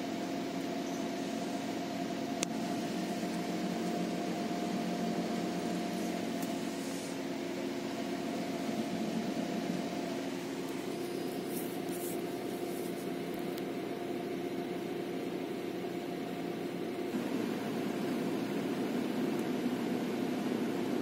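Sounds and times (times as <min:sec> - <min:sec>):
car engine idling: 0:00.0 - 0:21.0
ventilation blower hum: 0:00.0 - 0:21.0.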